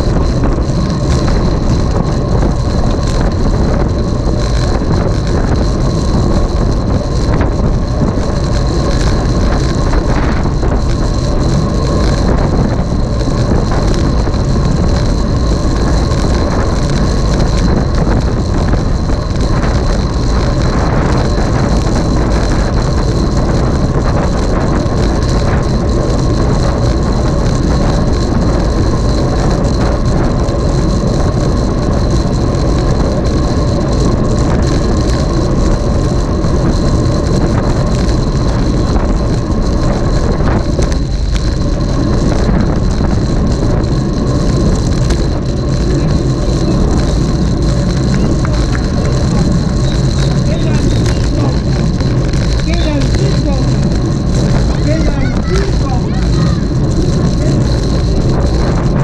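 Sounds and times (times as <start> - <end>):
continuous rattle: 0.0 - 59.0
wind rumble on microphone: 0.0 - 59.0.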